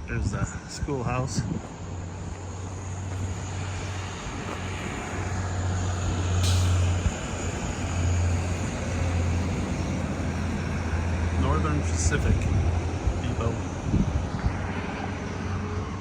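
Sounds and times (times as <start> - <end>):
motor vehicle passing by: 1.6 - 16.0.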